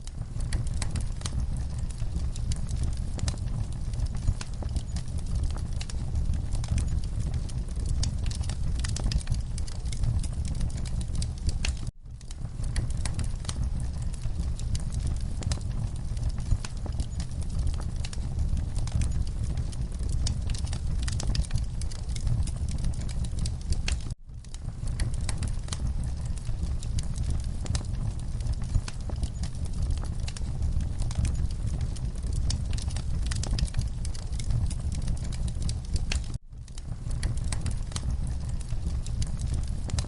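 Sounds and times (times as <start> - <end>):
fire crackling and popping: 0.0 - 40.0
fire flames rumbling: 0.0 - 40.0.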